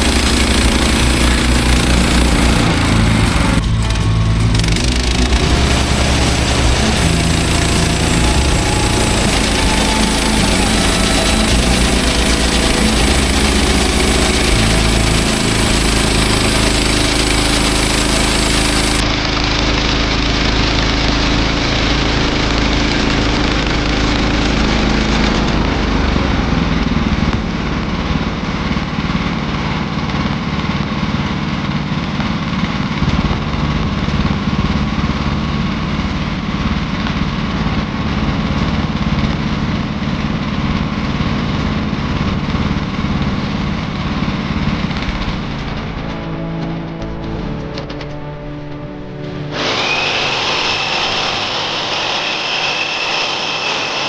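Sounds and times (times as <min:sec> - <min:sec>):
small gasoline engine running: 0:00.0 - 0:46.6, 0:49.4 - 0:54.0.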